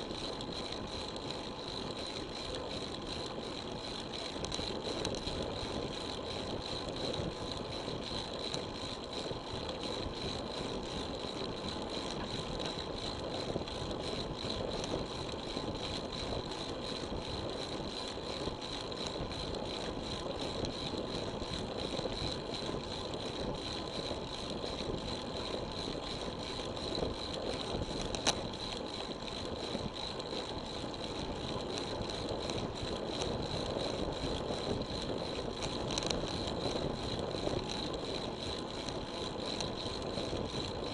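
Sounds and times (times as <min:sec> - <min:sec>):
bike tyre noise: 0:00.0 - 0:40.9.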